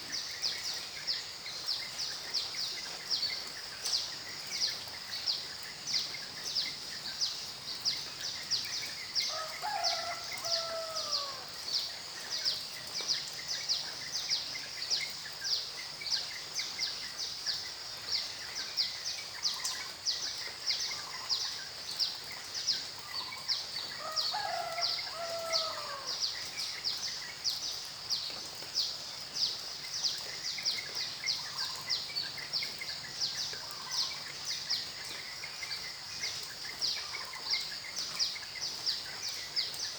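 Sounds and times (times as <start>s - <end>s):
rain-like hiss: 0.0s - 39.9s.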